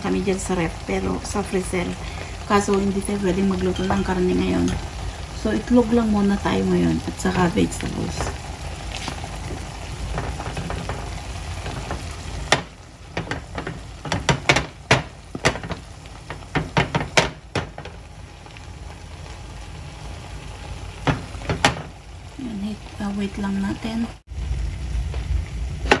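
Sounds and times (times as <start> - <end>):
egg sizzling in a pan: 0.0 - 26.0
oil popping and crackling: 0.0 - 26.0.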